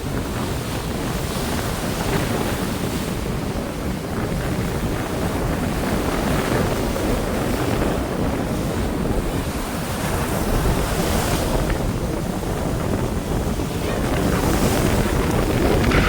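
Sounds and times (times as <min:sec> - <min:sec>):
sea waves breaking on beach: 0:00.0 - 0:16.0
wind buffeting microphone: 0:00.0 - 0:16.0.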